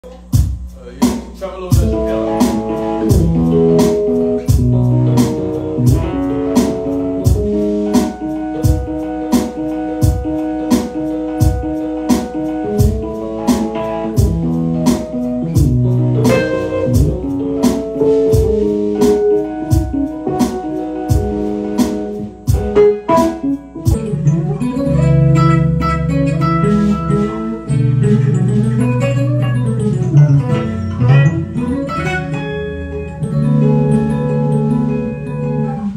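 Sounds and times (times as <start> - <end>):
steady clicking beat: 0.0 - 35.6
electric bass: 0.0 - 35.9
electric guitar: 1.8 - 35.9.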